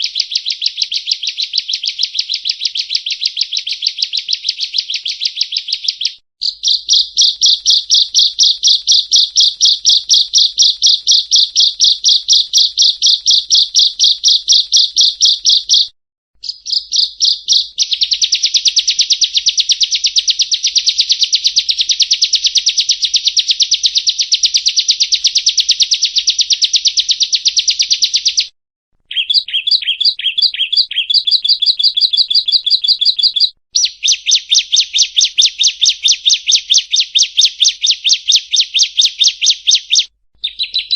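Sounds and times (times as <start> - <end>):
bird chirping rapidly: 0.0 - 28.5, 29.1 - 40.9.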